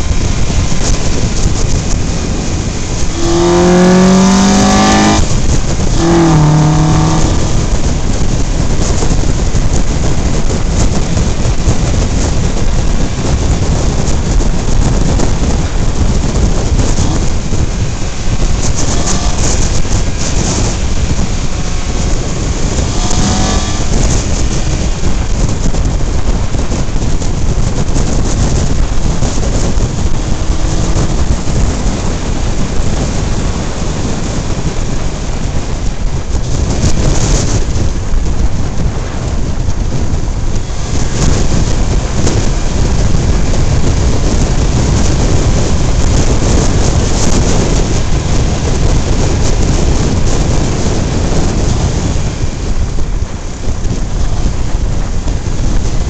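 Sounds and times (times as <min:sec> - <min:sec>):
tyre and road noise: 0:00.0 - 0:56.0
wind blasting microphone: 0:00.0 - 0:56.0.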